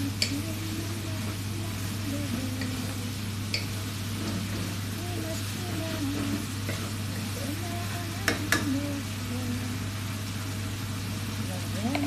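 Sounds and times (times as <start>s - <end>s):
chicken sizzling in a pan: 0.0s - 12.0s
low steady hum: 0.0s - 12.0s.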